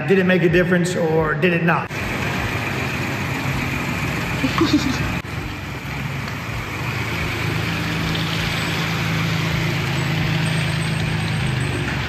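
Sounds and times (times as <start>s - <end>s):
car engine idling: 1.9s - 12.0s.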